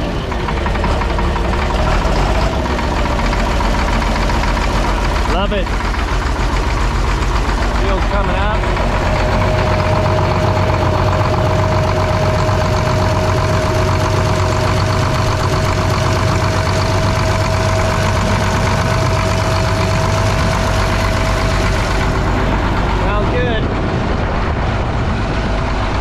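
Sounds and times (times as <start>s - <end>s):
diesel engine idling: 0.0s - 26.0s
high whine: 0.0s - 26.0s.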